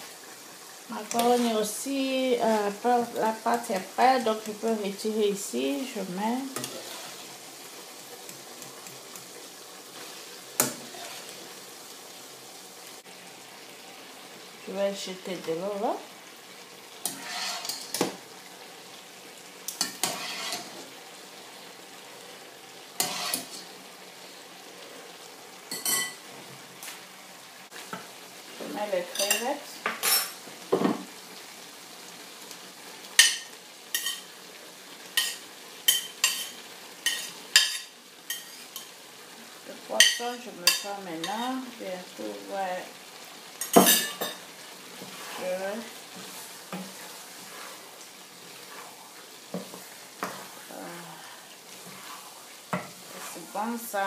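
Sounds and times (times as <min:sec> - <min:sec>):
sauce sizzling in a pan: 0:00.0 - 0:54.0.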